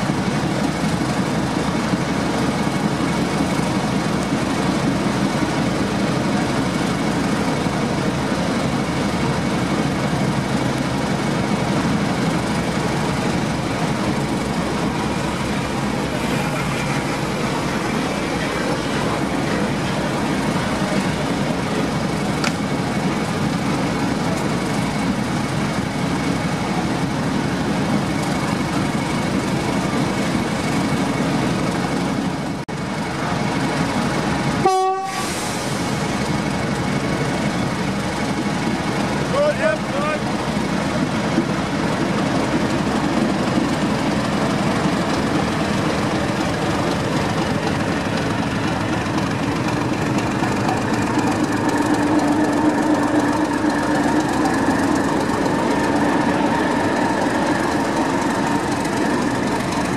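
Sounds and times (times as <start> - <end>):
diesel locomotive engines running: 0.0 - 59.9
train rumbling on rails: 0.0 - 59.9.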